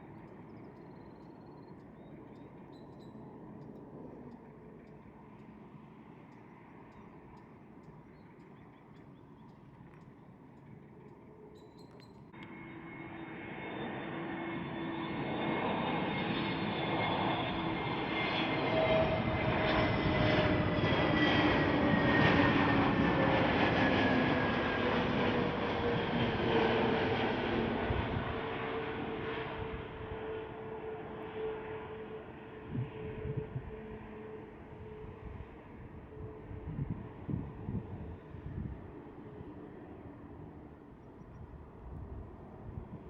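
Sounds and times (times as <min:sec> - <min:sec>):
airliner flying past: 0:00.0 - 0:43.0.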